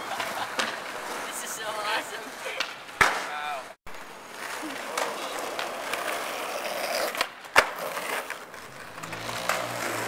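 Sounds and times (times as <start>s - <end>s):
skateboard wheels rolling on asphalt: 0.0s - 10.0s.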